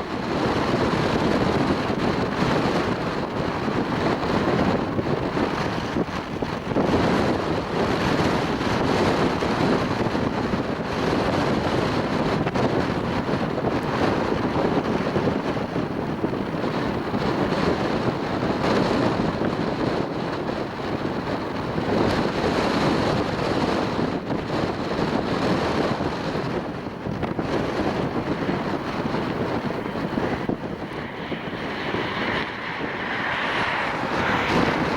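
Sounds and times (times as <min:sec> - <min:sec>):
strong gusting wind on microphone: 0:00.0 - 0:34.9.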